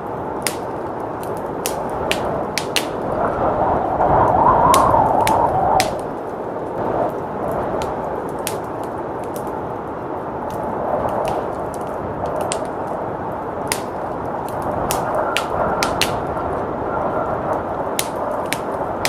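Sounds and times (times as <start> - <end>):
blizzard wind rushing: 0.0 - 19.0
wood fire crackling: 0.0 - 19.0.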